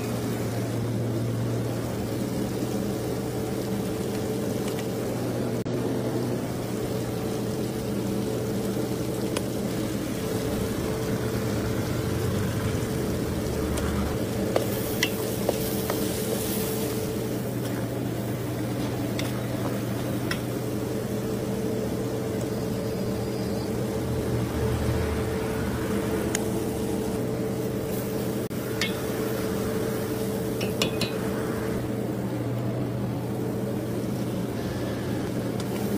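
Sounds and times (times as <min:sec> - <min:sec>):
low hum: 0:00.0 - 0:35.9
masala frying in oil: 0:00.0 - 0:35.9.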